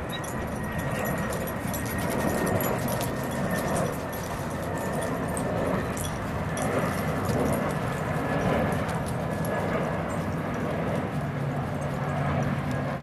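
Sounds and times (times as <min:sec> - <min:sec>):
steady outdoor rumble: 0:00.0 - 0:13.0.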